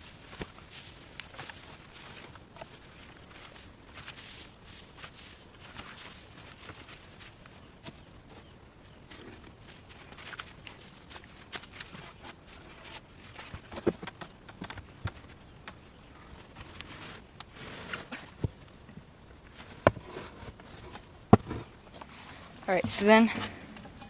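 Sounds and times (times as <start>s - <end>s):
faint rustling: 0.0s - 24.0s.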